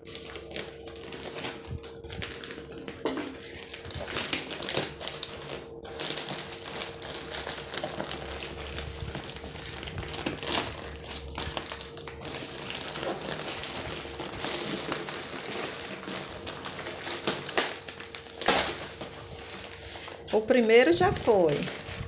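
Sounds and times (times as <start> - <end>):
plastic and paper crinkling: 0.0 - 22.0.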